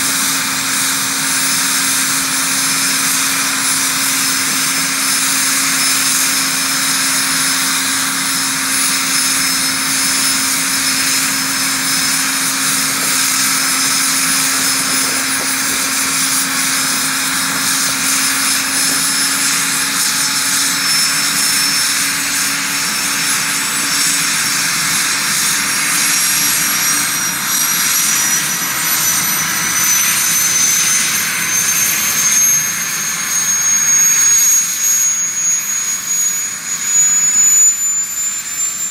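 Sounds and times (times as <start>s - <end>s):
helicopter rotor noise: 0.0s - 38.9s
high turbine whine: 0.0s - 38.9s.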